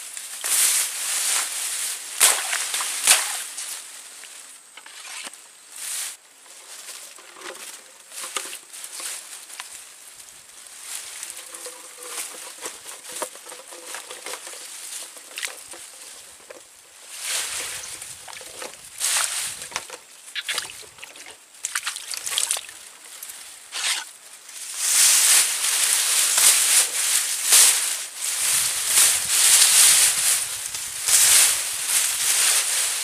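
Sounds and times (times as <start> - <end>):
rustling brush: 0.0 - 33.0.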